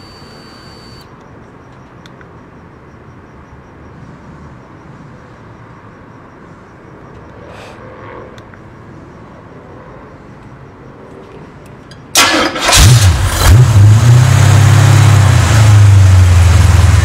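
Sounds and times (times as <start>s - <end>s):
low outdoor background rumble: 0.0s - 17.0s.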